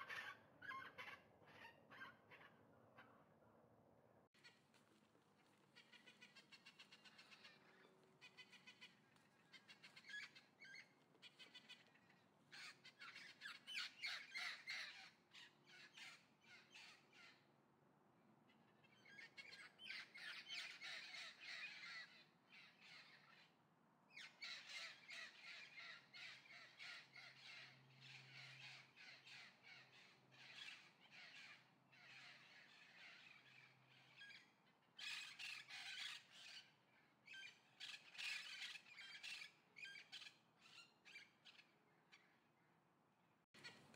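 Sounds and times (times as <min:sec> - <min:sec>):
faint harsh bird calls: 0:00.0 - 0:03.6, 0:04.3 - 0:17.6, 0:18.4 - 0:42.9, 0:43.5 - 0:43.9.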